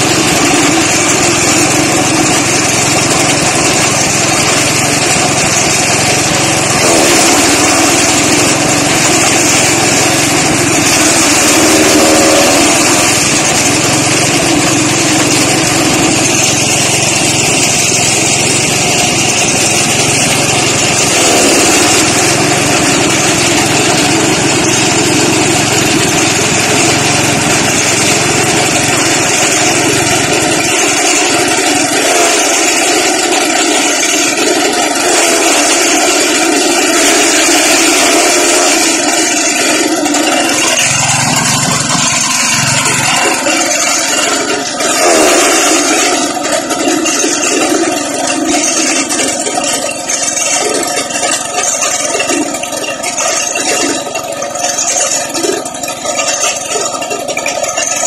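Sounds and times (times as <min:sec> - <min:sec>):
small petrol engine running: 0:00.0 - 0:58.0.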